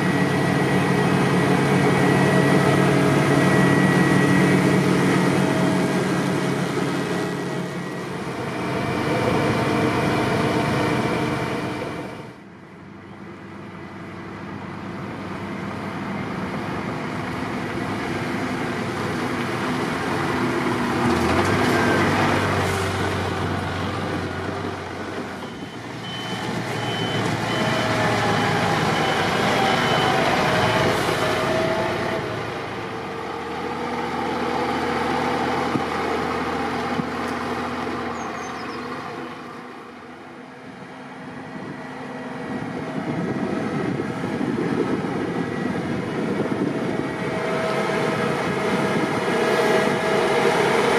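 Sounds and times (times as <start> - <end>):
truck engine driving: 0.0 - 50.9.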